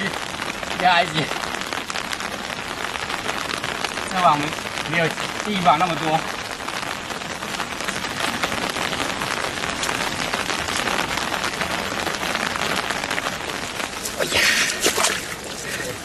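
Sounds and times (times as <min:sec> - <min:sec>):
water running and splashing: 0:00.0 - 0:16.0.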